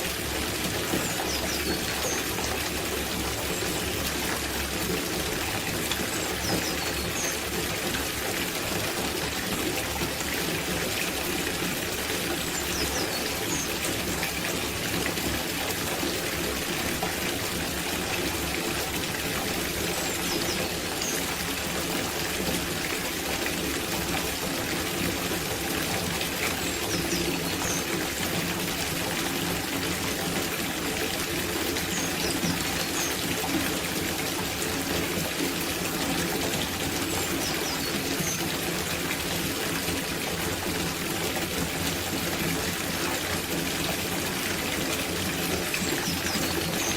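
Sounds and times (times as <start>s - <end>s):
water pouring into a bathtub: 0.0s - 46.9s.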